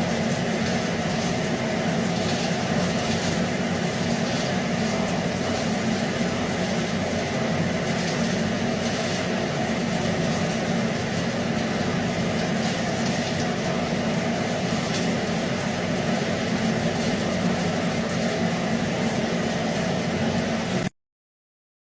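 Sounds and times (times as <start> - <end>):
arc welding hiss: 0.0 - 19.3.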